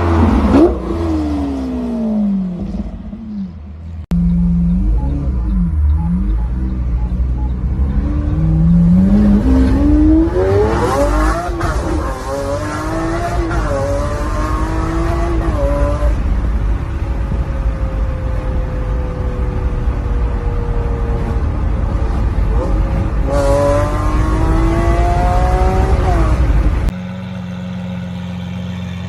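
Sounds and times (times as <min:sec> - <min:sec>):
sports car engine accelerating: 0:00.0 - 0:29.0.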